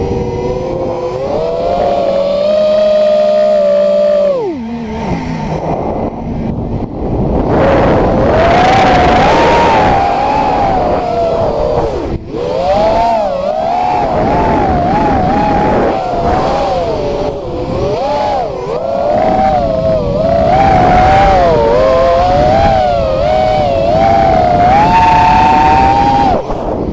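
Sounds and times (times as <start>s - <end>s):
drone motors and propellers whining: 0.0s - 26.9s
rush of air noise: 0.0s - 26.9s.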